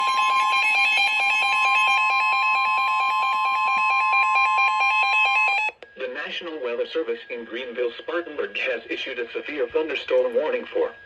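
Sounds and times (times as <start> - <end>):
harsh electronic alarm tone: 0.0 - 11.0.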